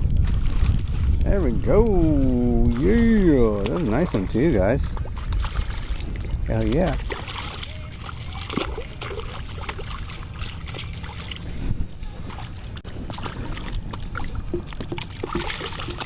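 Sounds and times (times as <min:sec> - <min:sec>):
low wind rumble: 0:00.0 - 0:16.0
water splashing: 0:01.3 - 0:16.0.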